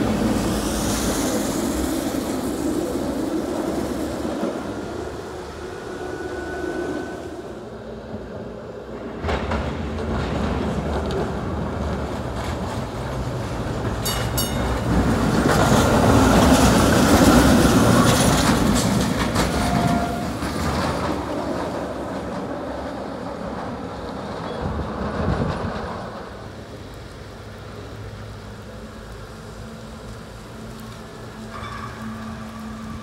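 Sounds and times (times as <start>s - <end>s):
trolley wheels rumbling on rails: 0.0s - 33.0s.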